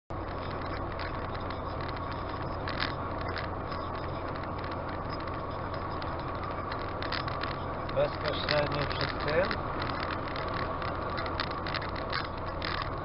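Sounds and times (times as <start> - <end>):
car road and engine noise: 0.1 - 13.0
low even hum: 0.1 - 13.0.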